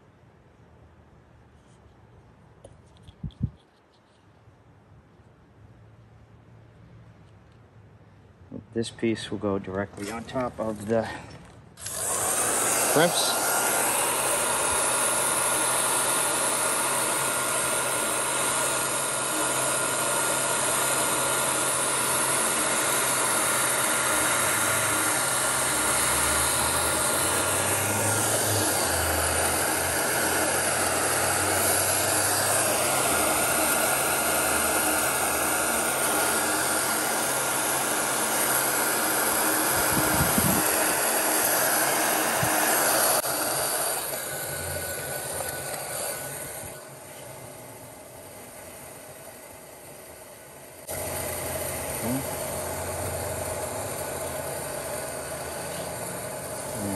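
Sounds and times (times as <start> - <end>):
heat gun fan whine: 0.0 - 56.9.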